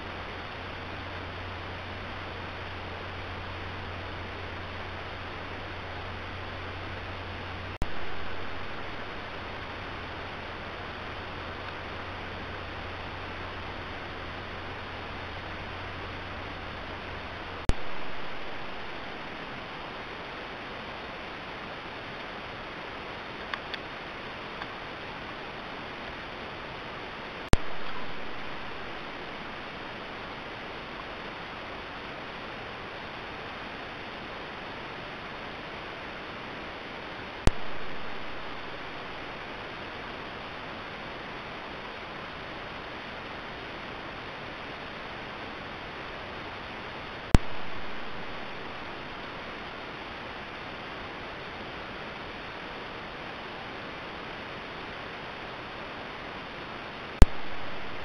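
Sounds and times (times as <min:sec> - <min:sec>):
steady microphone hiss: 0:00.0 - 0:58.0.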